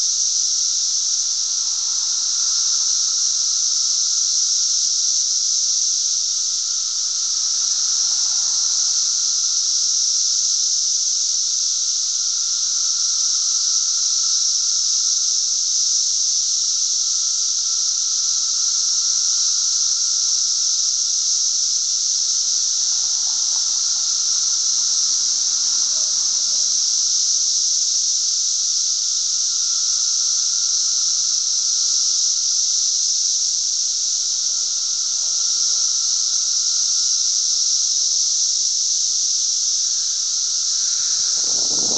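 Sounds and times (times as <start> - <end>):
chorus of cicadas singing: 0.0 - 41.9.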